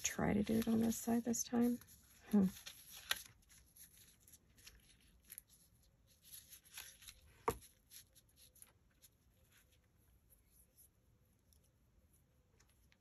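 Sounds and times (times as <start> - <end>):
paper rustling: 0.0 - 10.9.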